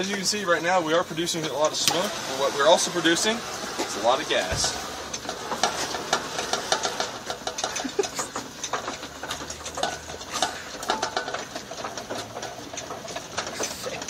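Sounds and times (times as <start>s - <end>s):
crackling and rattling clicks: 0.0s - 14.0s
low steady blower hum: 0.0s - 14.0s.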